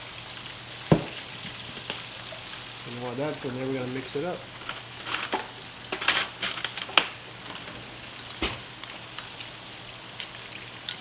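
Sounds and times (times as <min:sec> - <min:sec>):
onions frying in pan: 0:00.0 - 0:11.0.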